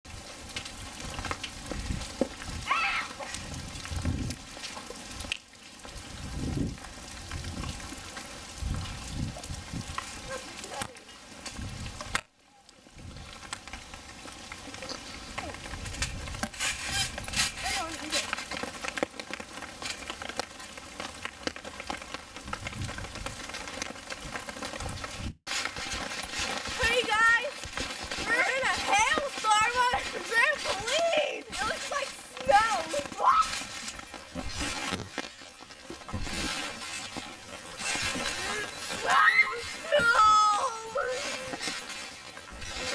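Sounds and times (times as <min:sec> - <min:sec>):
hail and rain on concrete and water: 0:00.0 - 0:42.9.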